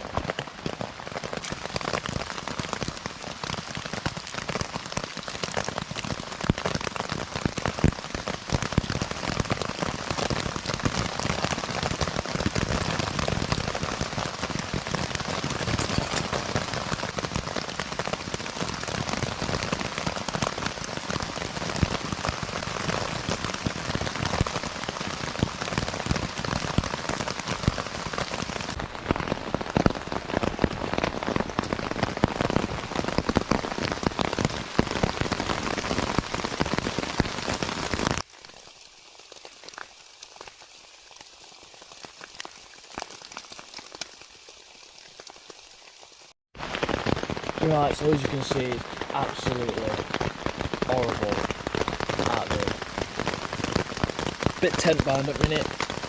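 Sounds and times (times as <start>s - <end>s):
heavy rain on tent: 0.0s - 56.0s.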